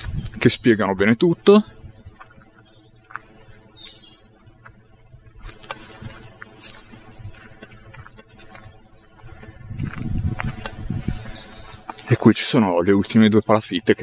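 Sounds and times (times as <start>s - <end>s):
footsteps on gravel: 0.0s - 13.4s.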